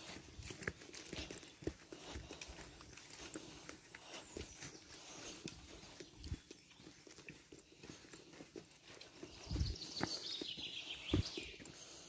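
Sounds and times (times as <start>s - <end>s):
footsteps on dirt path: 0.0s - 12.0s.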